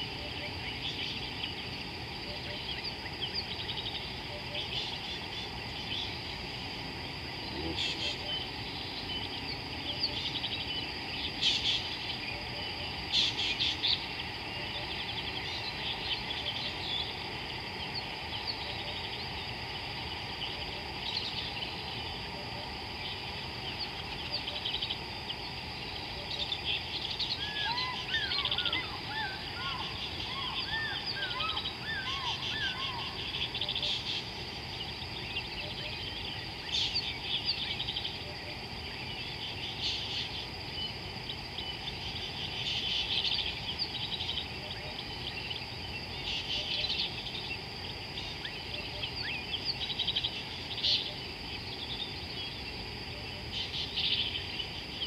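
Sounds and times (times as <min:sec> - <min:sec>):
birds calling: 0:00.0 - 0:52.8
high-pitched background hum: 0:00.0 - 0:55.0.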